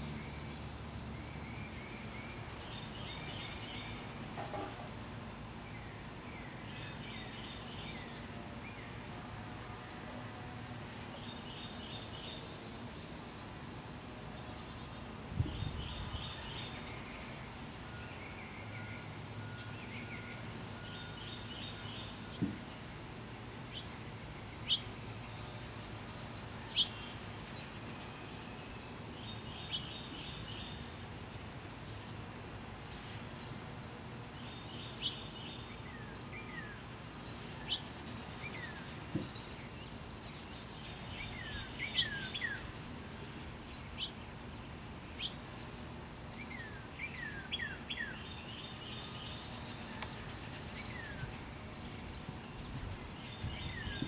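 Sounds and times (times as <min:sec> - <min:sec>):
outdoor background noise: 0:00.0 - 0:54.0
songbirds singing: 0:00.0 - 0:54.0.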